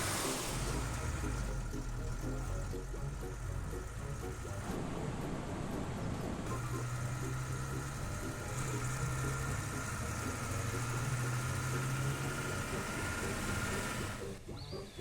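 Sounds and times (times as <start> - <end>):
van engine humming: 0.0 - 15.0.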